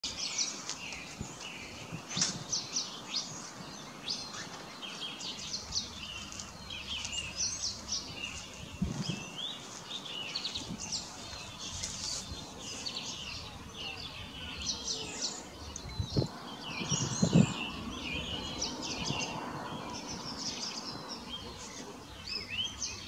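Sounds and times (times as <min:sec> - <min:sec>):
small birds chirping and twittering: 0:00.0 - 0:23.0.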